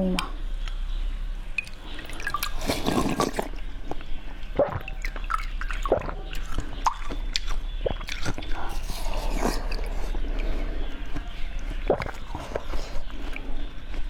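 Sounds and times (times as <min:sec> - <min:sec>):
water dripping: 0:01.5 - 0:14.0.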